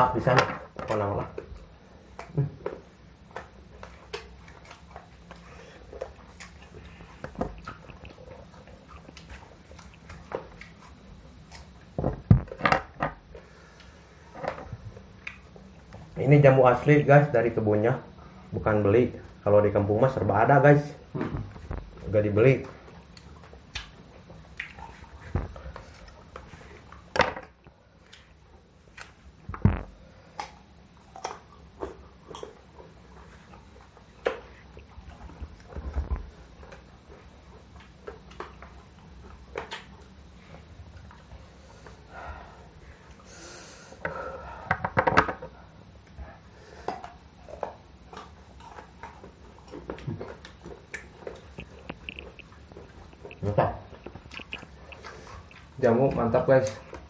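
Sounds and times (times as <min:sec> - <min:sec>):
biting and chewing fruit: 0:00.0 - 0:16.2, 0:20.8 - 0:43.3, 0:44.8 - 0:57.0.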